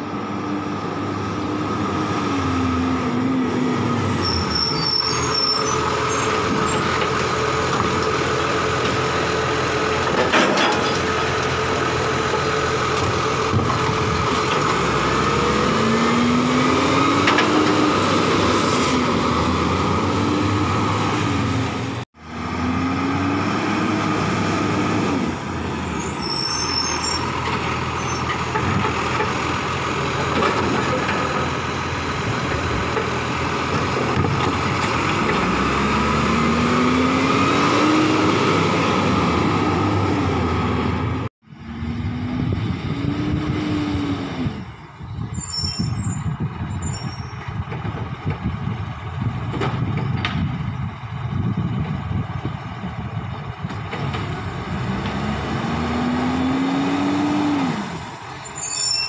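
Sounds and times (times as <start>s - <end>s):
garbage truck engine revving: 0.5s - 44.8s, 50.9s - 58.4s.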